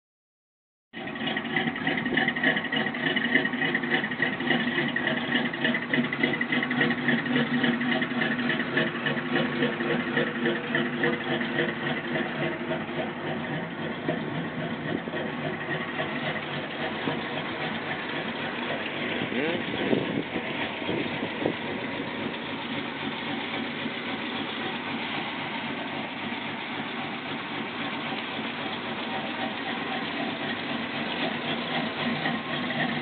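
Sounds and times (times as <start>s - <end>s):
car engine idling: 0.9s - 33.0s.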